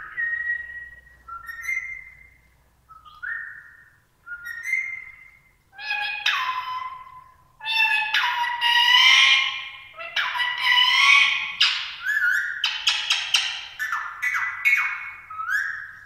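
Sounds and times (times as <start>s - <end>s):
parakeet calling: 0.0s - 2.3s, 4.4s - 16.0s.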